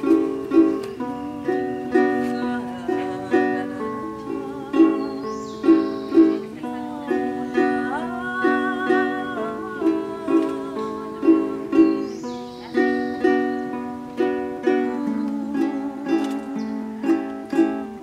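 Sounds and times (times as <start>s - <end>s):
plucked string instrument strumming: 0.0s - 18.0s.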